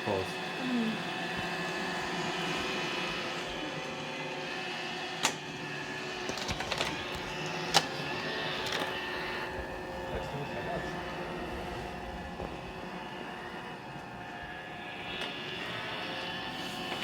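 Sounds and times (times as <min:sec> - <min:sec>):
robot vacuum motor whine: 0:00.1 - 0:17.0.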